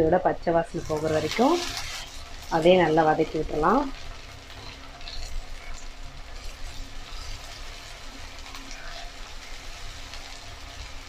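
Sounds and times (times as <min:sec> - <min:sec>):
onions sizzling in oil: 0:00.0 - 0:11.0
spatula stirring in pan: 0:00.7 - 0:02.7, 0:03.9 - 0:11.0.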